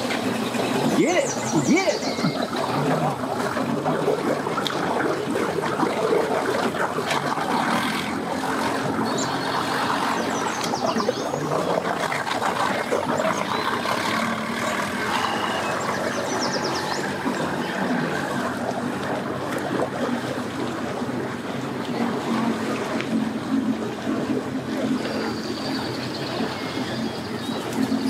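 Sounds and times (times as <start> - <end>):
outboard motor running: 0.0 - 28.0
water churning: 0.0 - 28.0.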